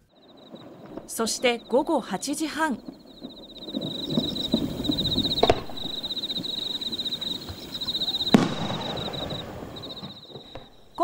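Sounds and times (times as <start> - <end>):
firework booms: 0.0 - 11.0
insects chirping: 0.0 - 11.0.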